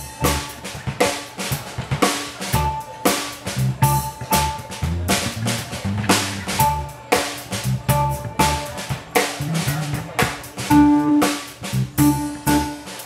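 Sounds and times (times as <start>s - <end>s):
electric bass: 0.0s - 1.0s, 2.5s - 13.0s
drum kit beat: 0.0s - 13.0s
keyboard: 0.0s - 13.0s.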